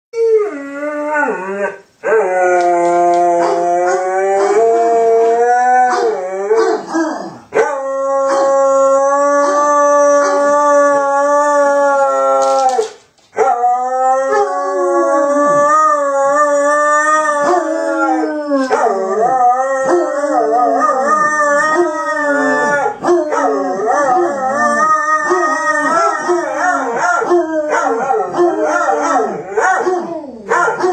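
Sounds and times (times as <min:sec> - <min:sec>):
dog howling: 0:00.2 - 0:30.9.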